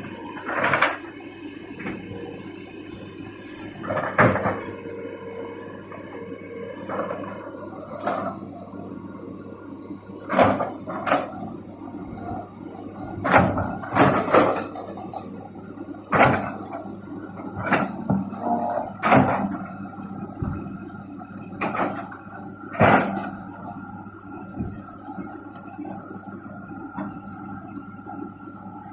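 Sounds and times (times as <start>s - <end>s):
excavator engine running: 0.0s - 28.9s.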